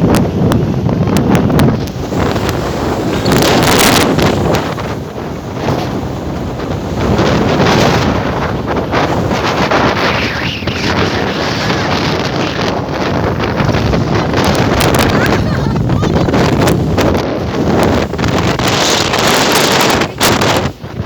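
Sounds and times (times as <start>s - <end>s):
waves washing: 0.0s - 21.0s
wind buffeting microphone: 0.0s - 21.0s.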